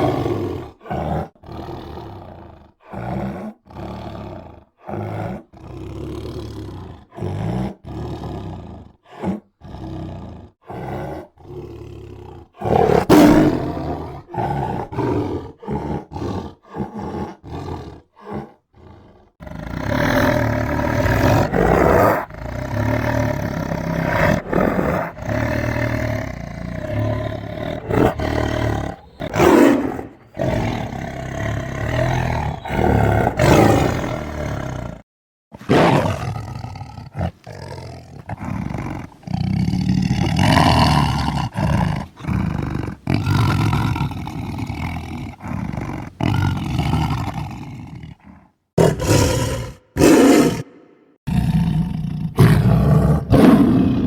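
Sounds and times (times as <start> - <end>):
tiger growling and roaring: 0.0 - 54.0.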